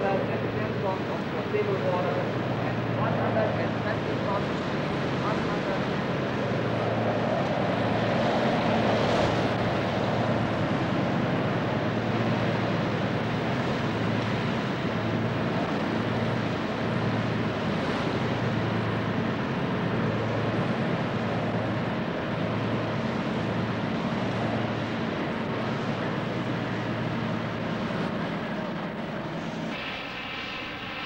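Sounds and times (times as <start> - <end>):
ship engines droning: 0.0 - 31.0
wind and sea rushing: 0.0 - 31.0.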